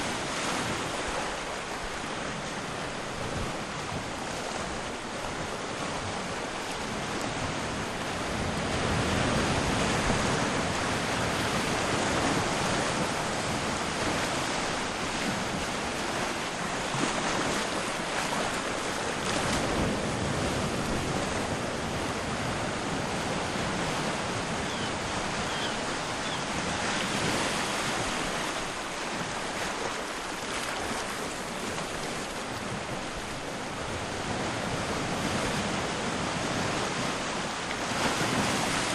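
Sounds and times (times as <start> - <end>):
sea waves washing onto shore: 0.0 - 38.9.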